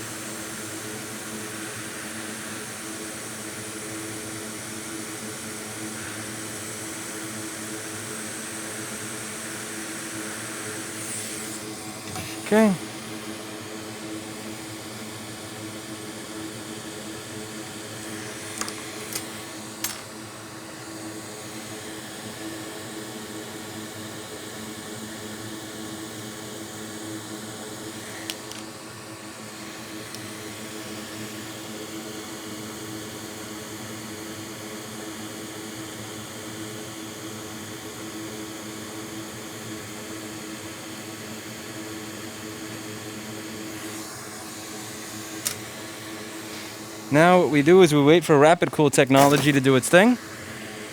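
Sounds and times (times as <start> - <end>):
hot air blower fan hum: 0.0 - 34.7, 43.0 - 50.9.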